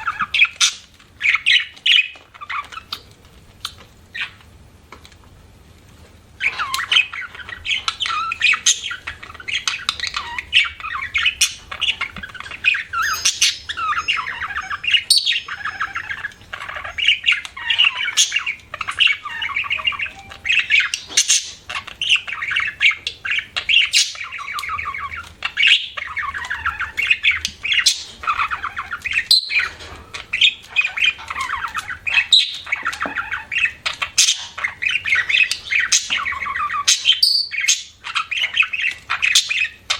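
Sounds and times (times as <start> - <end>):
budgerigars chirping and chattering: 0.0 - 4.5, 6.4 - 39.9.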